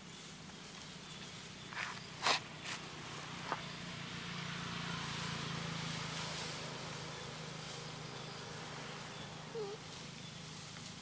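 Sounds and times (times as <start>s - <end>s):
vehicle passing: 0.6s - 11.0s.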